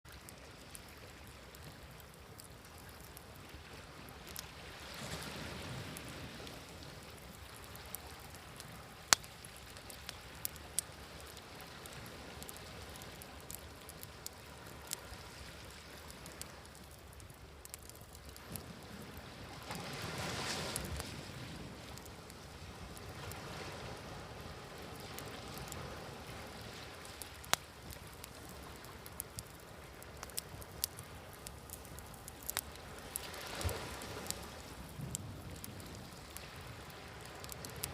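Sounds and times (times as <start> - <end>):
sea waves: 0.1 - 17.4, 18.3 - 37.9
wood fire crackling and popping: 0.1 - 21.2, 21.8 - 37.9.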